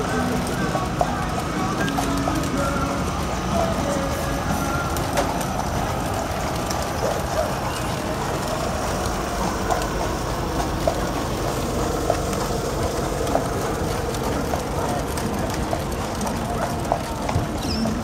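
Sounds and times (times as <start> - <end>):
carriage wheels rumbling and rattling: 0.0 - 18.0
horse hooves knocking: 0.0 - 18.0.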